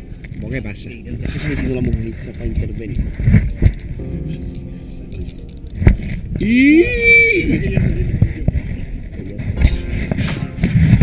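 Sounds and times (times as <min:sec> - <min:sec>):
wind on microphone: 0:00.0 - 0:04.4, 0:05.0 - 0:11.0.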